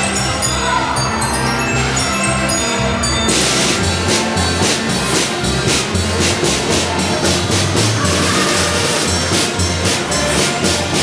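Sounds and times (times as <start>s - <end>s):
band music with drums and bass: 0.0s - 11.0s.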